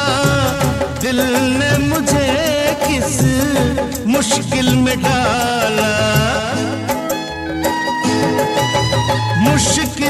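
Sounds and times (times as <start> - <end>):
person singing: 0.0 - 7.5, 9.1 - 10.0
instrumental chords with bass line: 0.0 - 10.0.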